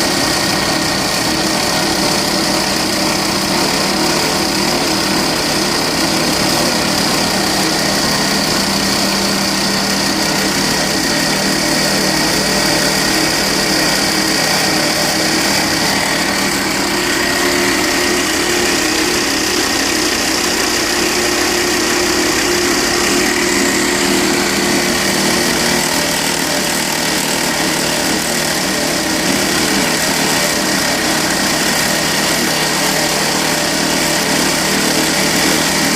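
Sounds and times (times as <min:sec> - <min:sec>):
alternator rattling: 0:00.0 - 0:35.9
diesel engine running: 0:00.0 - 0:35.9.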